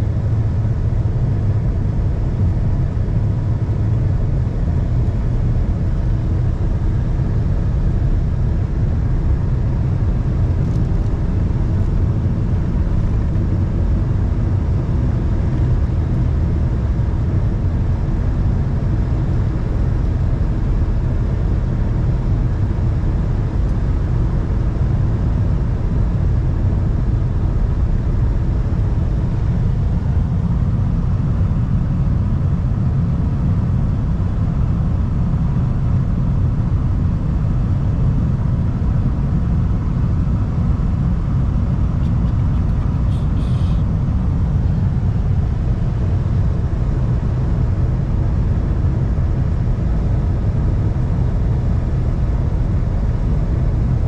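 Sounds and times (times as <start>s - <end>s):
car interior road rumble: 0.0s - 52.5s.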